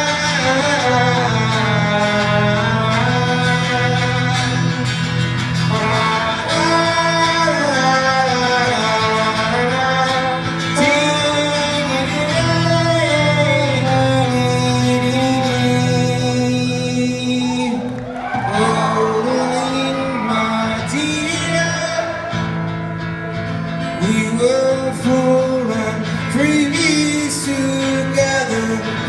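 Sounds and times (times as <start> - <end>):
man singing: 0.0 - 22.6, 23.7 - 29.0
strummed acoustic guitar: 0.0 - 29.0.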